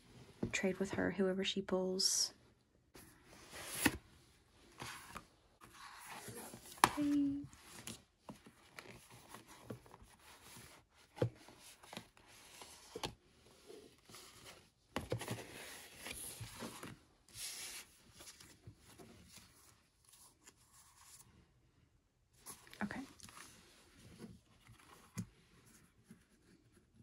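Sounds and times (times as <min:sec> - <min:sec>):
cardboard and paper rustling: 0:03.0 - 0:21.3, 0:22.4 - 0:27.0.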